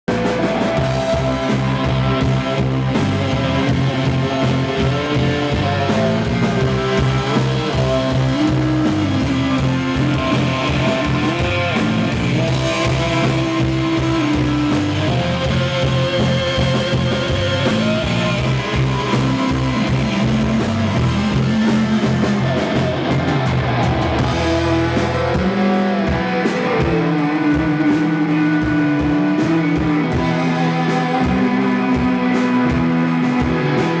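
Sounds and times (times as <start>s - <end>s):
electric guitar: 0.0s - 34.0s
live blues rock band: 0.1s - 34.0s.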